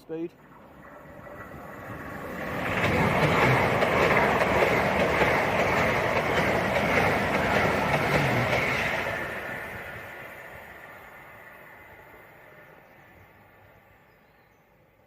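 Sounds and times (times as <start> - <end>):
trains passing at speed: 0.0 - 15.0.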